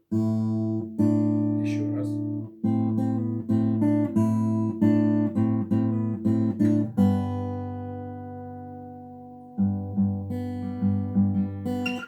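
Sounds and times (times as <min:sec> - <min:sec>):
acoustic guitar picked notes: 0:00.0 - 0:12.0.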